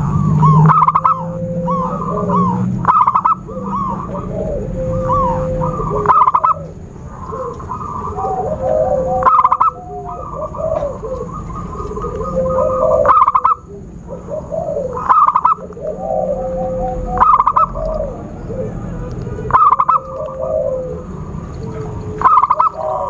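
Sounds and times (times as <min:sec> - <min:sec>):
dove cooing: 0:00.0 - 0:23.0
dove rattling trill: 0:00.0 - 0:23.0.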